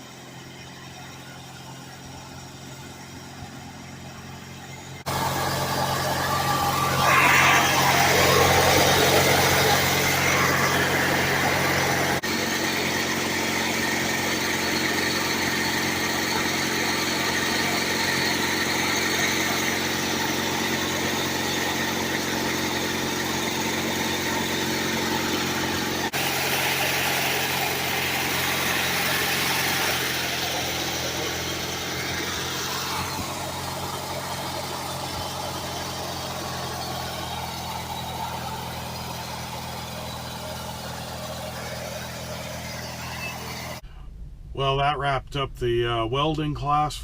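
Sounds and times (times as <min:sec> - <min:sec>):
small gasoline engine running: 0:00.0 - 0:43.8.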